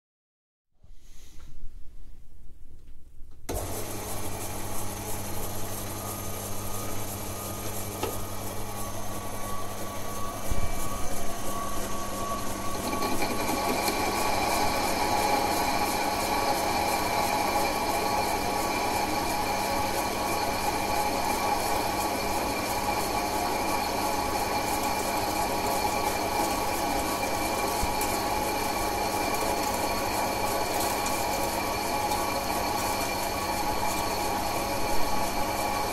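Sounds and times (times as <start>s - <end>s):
lathe cutting steel with whine: 3.5s - 35.9s
lathe humming: 3.5s - 35.9s.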